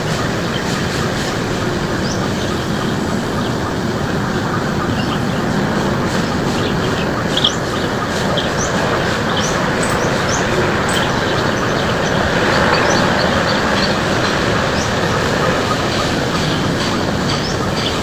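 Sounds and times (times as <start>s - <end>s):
loud steady rushing noise: 0.0s - 18.0s
small birds chirping: 0.0s - 18.0s.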